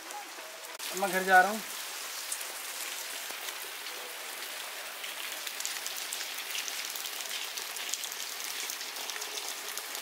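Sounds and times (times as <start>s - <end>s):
rain on thatched roof: 0.0s - 10.0s
ticks of raindrops: 0.0s - 10.0s.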